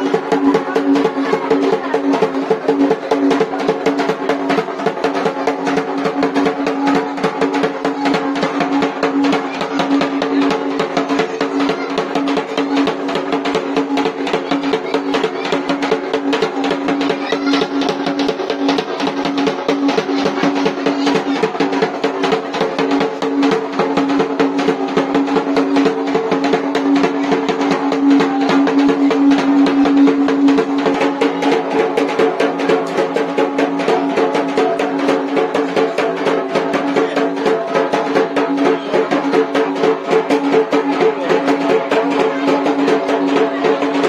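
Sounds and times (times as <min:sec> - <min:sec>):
rapid drumming: 0:00.0 - 0:44.0.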